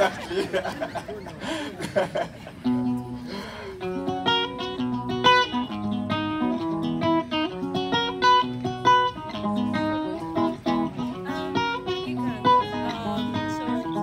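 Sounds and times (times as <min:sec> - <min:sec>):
acoustic guitar playing: 0:02.3 - 0:14.0.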